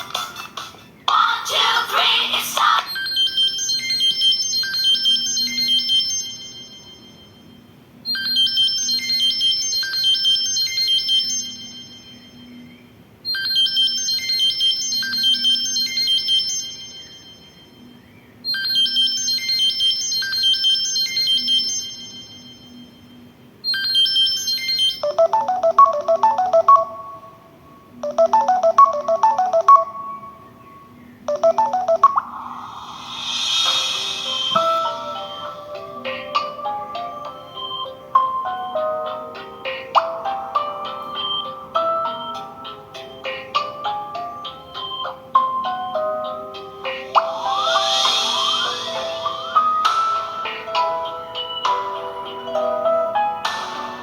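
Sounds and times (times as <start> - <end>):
high chiming ringtone melody: 2.6 - 54.0.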